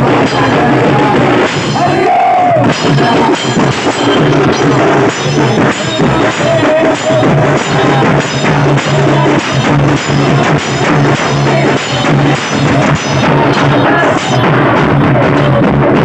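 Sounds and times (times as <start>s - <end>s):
procession band playing: 0.0s - 15.6s
bass drum beats: 0.0s - 16.0s
cymbals: 0.0s - 16.0s.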